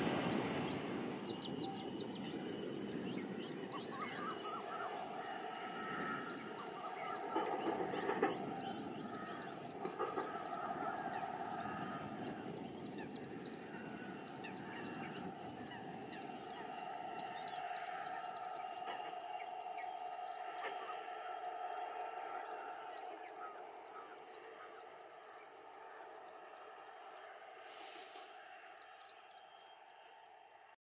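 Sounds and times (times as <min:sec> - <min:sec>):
bird chirps: 0:00.0 - 0:30.1
steady hum: 0:00.0 - 0:30.2.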